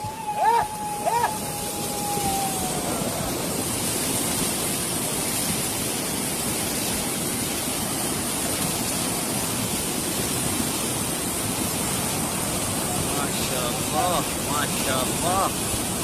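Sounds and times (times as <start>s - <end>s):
rushing flood water: 0.0s - 16.0s.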